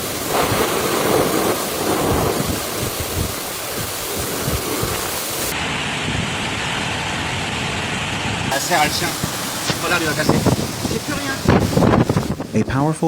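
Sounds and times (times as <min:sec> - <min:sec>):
thunder rumble: 0:00.0 - 0:12.6
heavy rain pouring: 0:00.0 - 0:13.0.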